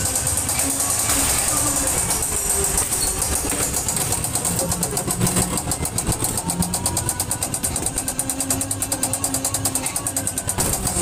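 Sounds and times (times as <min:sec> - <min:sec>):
ride car ticking on track: 0:00.0 - 0:11.0.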